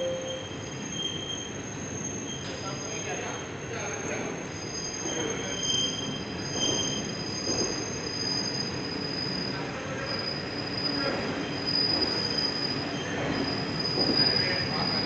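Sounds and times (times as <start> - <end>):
high-pitched wheel squeal: 0.0 - 3.5, 4.2 - 15.0
train wheels rumbling on rail: 0.5 - 15.0.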